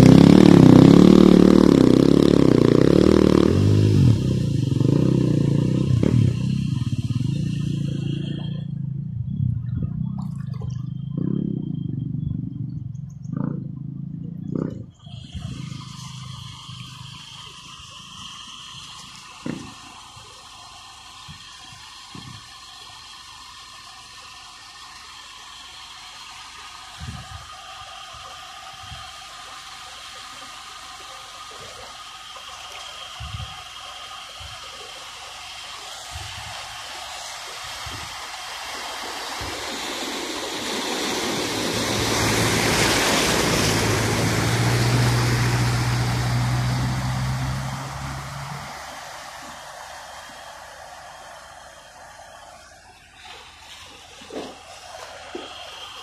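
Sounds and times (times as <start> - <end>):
rushing water: 0.0 - 8.7, 14.5 - 56.0
low engine hum: 0.0 - 56.0
water splashing off wheels: 0.0 - 56.0.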